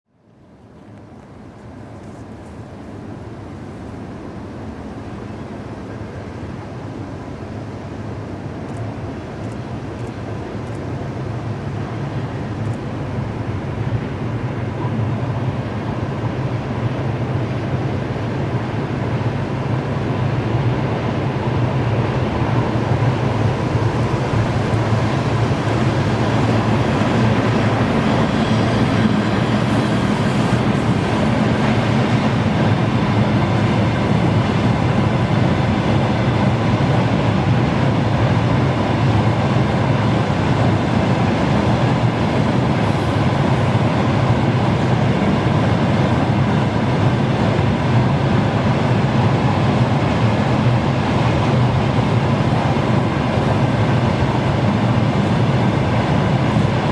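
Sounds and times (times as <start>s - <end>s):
electric locomotive rumbling: 0.9s - 56.9s.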